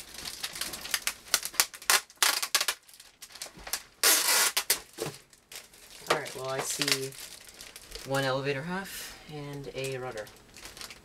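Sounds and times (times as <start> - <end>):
plastic bag crinkling and rustling: 0.0 - 11.0.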